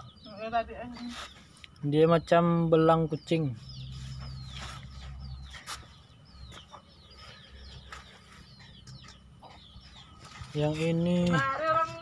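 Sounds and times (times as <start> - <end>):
chickens chirping: 0.0 - 12.0.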